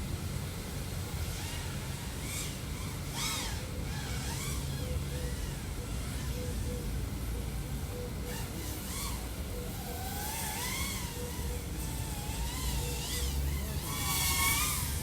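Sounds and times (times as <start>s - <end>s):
drone motors whining: 1.0s - 6.9s, 7.7s - 15.0s.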